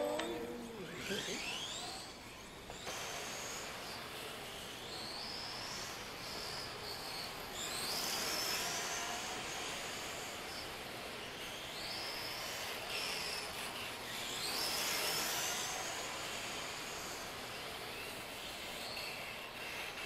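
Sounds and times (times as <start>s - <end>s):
rc car motor whining: 0.0s - 20.0s.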